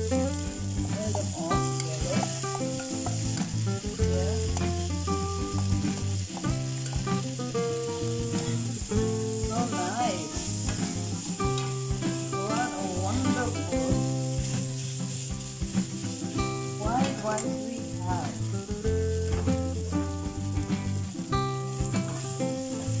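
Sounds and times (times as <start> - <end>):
background music with bass line: 0.0 - 23.0
food sizzling in a frying pan: 0.0 - 23.0.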